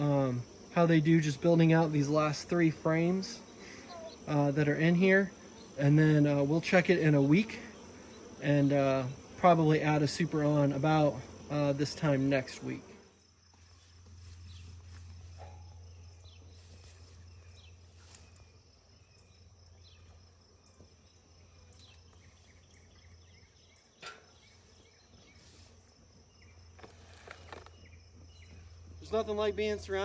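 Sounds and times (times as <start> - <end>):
faint insect chirping: 0.0 - 30.0.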